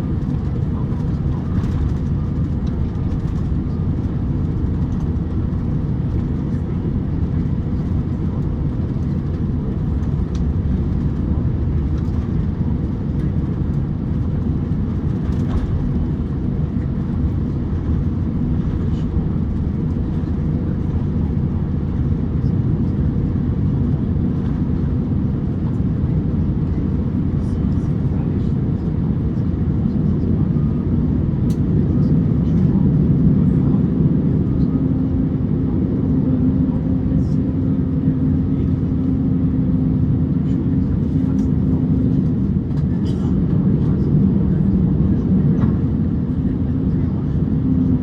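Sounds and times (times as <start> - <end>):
airplane cabin low rumble: 0.0 - 48.0.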